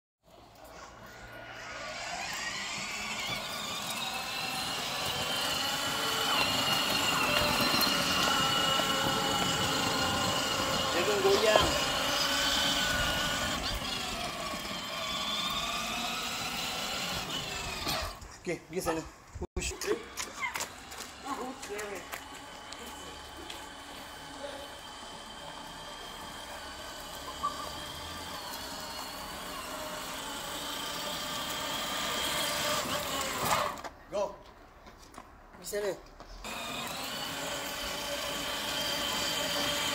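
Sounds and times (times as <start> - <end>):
wheels rolling on asphalt: 0.2 - 39.9
electric motors whining: 0.3 - 18.4, 19.6 - 34.0, 36.4 - 39.9.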